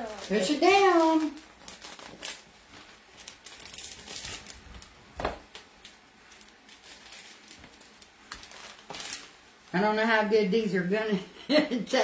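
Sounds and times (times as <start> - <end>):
plastic wrapper crinkling: 0.0 - 9.8.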